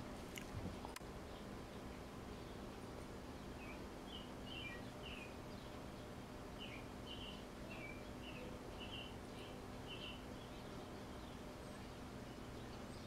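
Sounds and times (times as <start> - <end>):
small songbirds chirping: 0.3 - 13.0.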